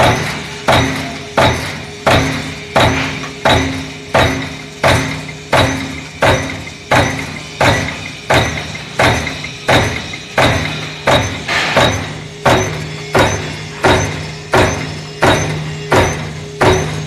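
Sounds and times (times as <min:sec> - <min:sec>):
machine hum: 0:00.0 - 0:17.0
punch press metallic bangs: 0:00.0 - 0:17.0.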